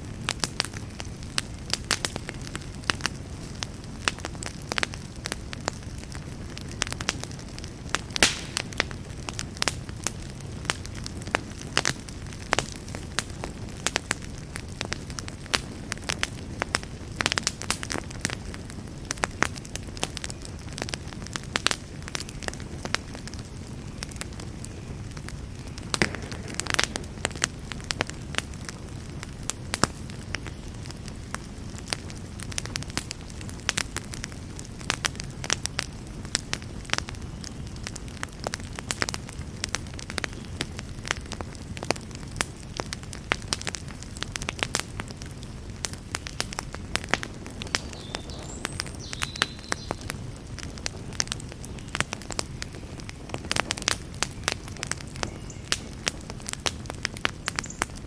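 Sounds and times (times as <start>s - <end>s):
campfire flame rushing: 0.0s - 58.0s
fire crackling and popping: 0.0s - 58.0s.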